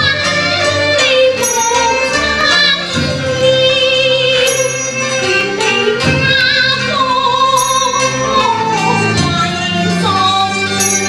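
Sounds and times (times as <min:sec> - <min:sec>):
instrumental ensemble: 0:00.0 - 0:11.0
opera singing: 0:00.0 - 0:11.0.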